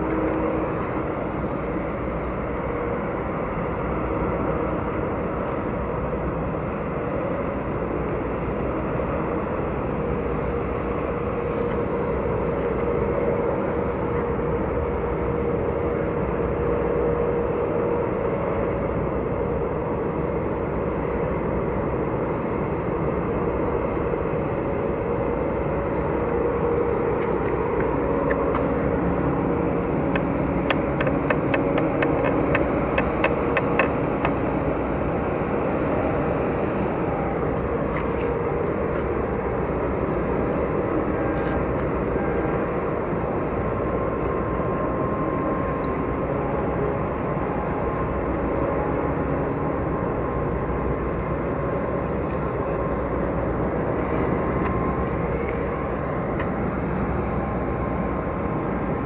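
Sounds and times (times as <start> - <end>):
faint steady hum: 0.0 - 59.0
ship engine and propeller rumble: 0.0 - 59.0.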